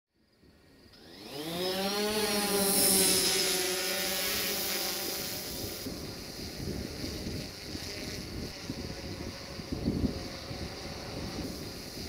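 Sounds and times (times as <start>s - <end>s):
motor spinning up: 0.7s - 12.0s.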